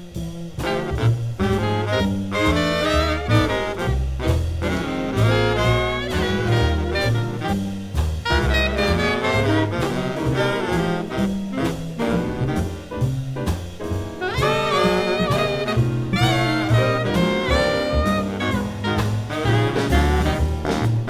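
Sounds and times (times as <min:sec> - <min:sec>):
big jazz band playing: 0:00.0 - 0:21.0
drums: 0:00.0 - 0:21.0
walking bass: 0:00.0 - 0:21.0
saxophone and brass: 0:00.5 - 0:13.5, 0:14.1 - 0:21.0.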